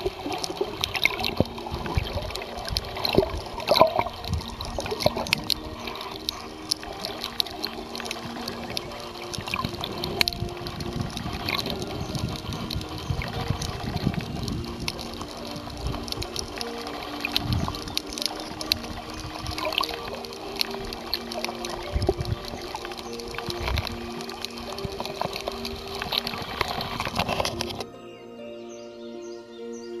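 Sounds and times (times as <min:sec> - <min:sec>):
small clicks and crackles: 0:00.0 - 0:27.8
water sloshing and bubbling: 0:00.0 - 0:27.9.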